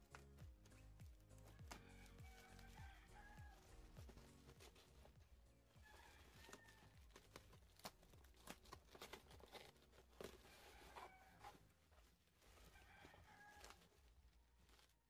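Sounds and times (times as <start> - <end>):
bubble wrap and cardboard crackling: 0.0 - 15.0.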